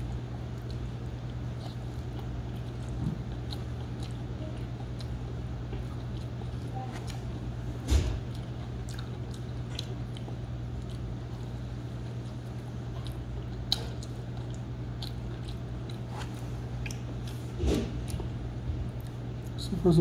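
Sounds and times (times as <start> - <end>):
man chewing food: 0.0 - 19.6
steady low hum: 0.0 - 20.0.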